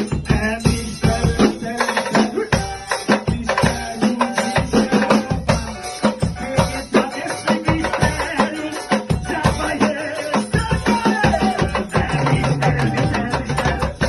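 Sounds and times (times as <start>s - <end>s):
drums and hand percussion: 0.0s - 14.0s
worship band music: 0.0s - 14.0s.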